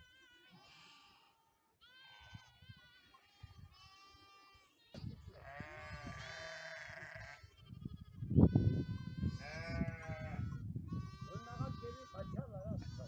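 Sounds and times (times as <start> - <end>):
sheep bleating: 0.0 - 13.0.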